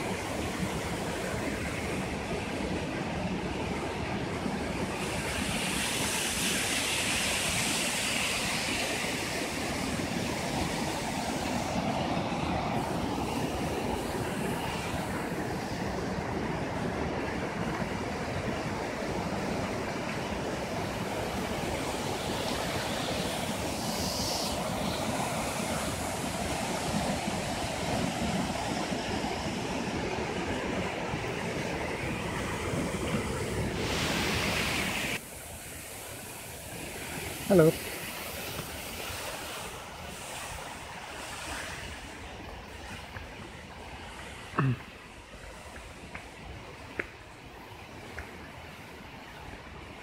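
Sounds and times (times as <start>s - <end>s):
waterfall rushing over rocks: 0.0s - 50.0s.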